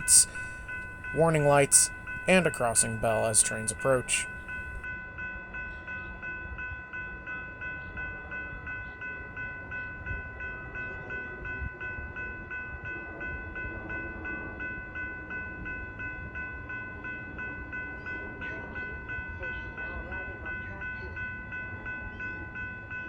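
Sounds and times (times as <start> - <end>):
railroad crossing bell ringing: 0.0 - 23.0.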